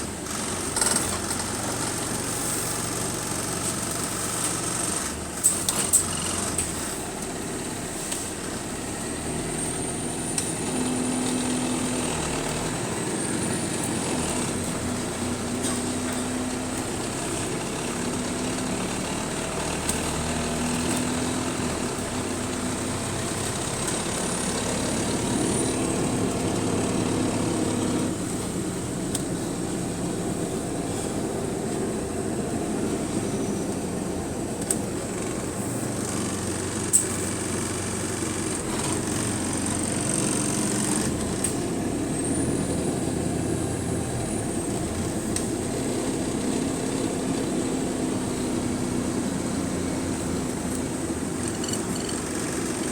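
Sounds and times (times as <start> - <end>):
bus engine running: 0.0 - 52.9.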